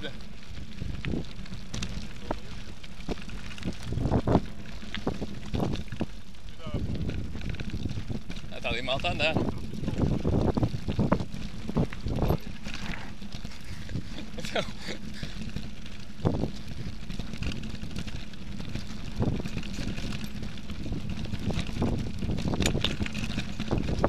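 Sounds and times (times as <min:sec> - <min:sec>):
bike rattling over gravel: 0:00.0 - 0:24.0
wind rumbling on microphone: 0:00.0 - 0:24.0.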